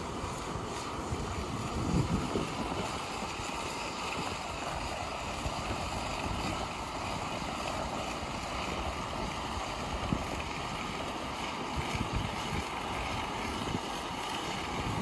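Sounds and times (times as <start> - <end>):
wind buffeting microphone: 0.5 - 15.0.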